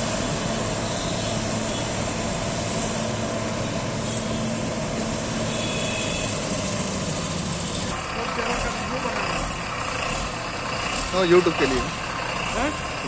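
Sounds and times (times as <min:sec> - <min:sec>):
heavy machinery engine humming: 0:00.0 - 0:13.0.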